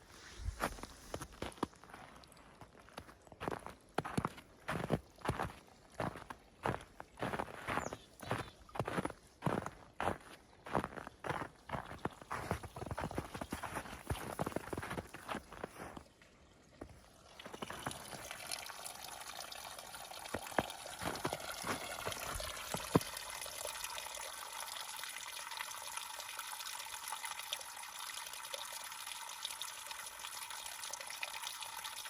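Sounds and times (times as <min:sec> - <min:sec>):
water trickling and splashing: 0:00.0 - 0:32.0.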